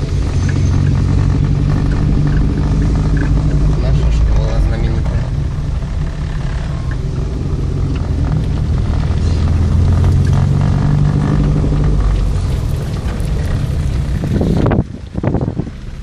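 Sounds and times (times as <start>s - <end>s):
car engine and tyre hum: 0.0s - 16.0s.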